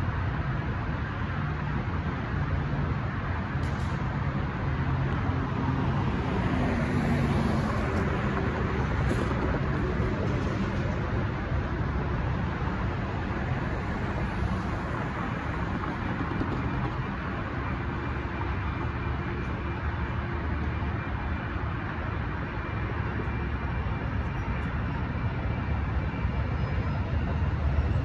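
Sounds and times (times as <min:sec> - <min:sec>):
distant road traffic hiss: 0:00.0 - 0:28.0.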